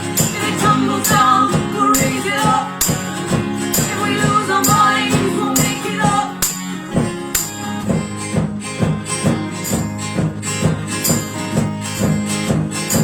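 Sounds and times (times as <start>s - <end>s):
acoustic guitars strumming: 0.0s - 13.0s
sharp percussive hits: 0.0s - 13.0s.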